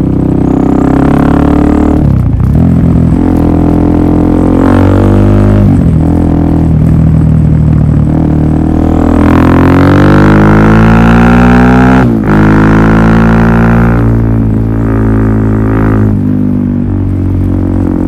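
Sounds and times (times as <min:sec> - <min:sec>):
motorcycle engine running loud: 0:00.0 - 0:18.0.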